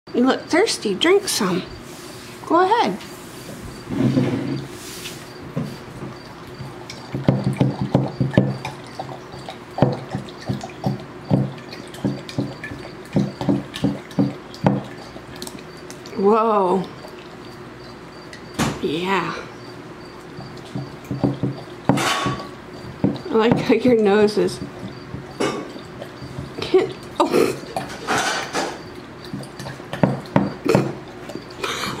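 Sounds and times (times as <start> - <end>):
dog lapping water: 4.5 - 18.6, 19.4 - 32.0.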